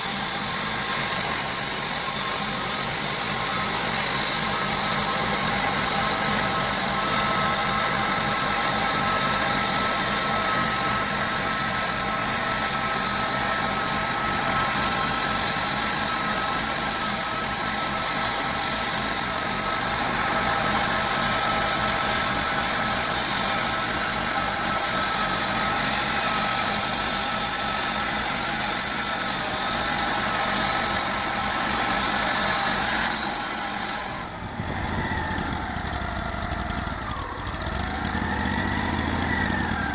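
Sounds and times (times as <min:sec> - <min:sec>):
bandsaw sawing through log: 0:00.0 - 0:35.9.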